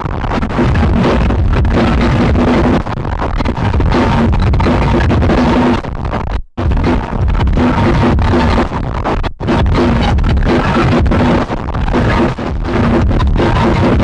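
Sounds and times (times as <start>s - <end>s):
lo-fi music with low notes: 0.0s - 14.0s.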